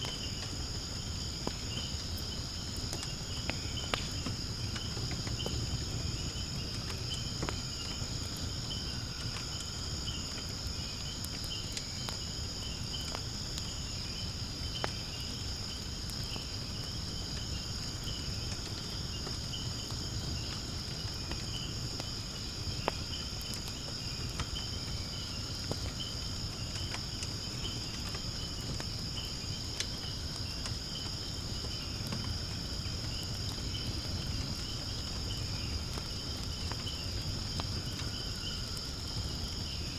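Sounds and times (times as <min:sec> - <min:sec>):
insects chirring: 0:00.0 - 0:39.9
wood fire crackling: 0:00.0 - 0:39.9.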